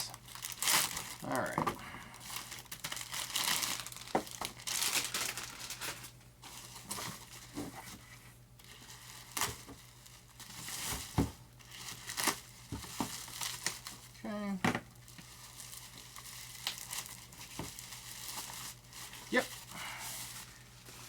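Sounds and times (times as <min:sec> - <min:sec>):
plastic wrap crinkling: 0:00.0 - 0:14.2, 0:14.9 - 0:21.0.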